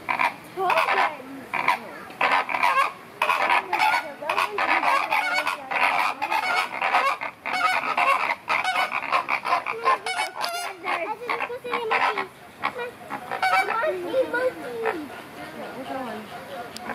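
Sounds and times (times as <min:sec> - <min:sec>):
flamingos honking: 0:00.0 - 0:16.9.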